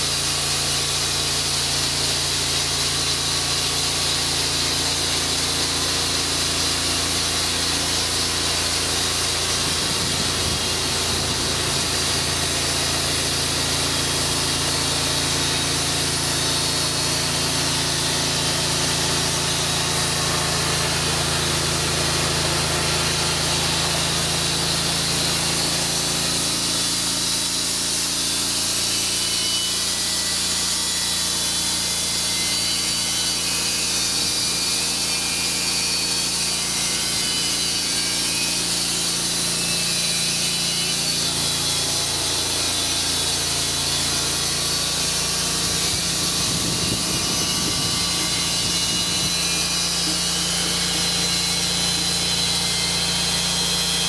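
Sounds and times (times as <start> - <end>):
band blade sawing through log: 0.0 - 54.0
band sawmill engine running: 0.0 - 54.0.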